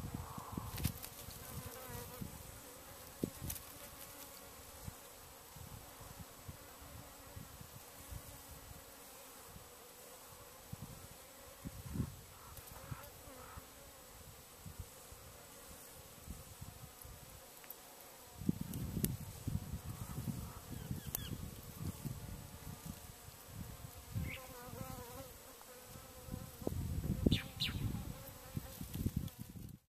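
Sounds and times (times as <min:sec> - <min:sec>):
flying insects buzzing: 0:00.0 - 0:29.8.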